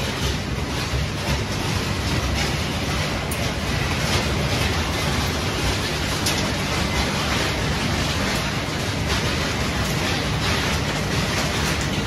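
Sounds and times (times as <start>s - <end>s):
machinery roar: 0.0s - 12.0s.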